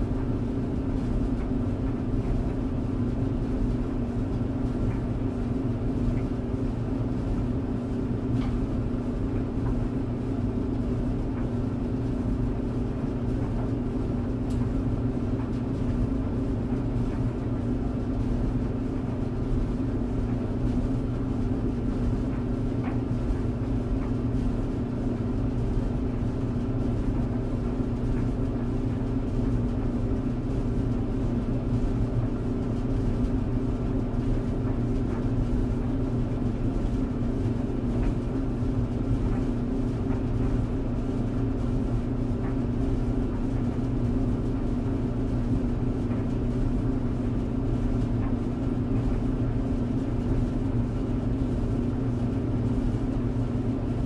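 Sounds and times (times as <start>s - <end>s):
tumble dryer running: 0.0s - 54.0s.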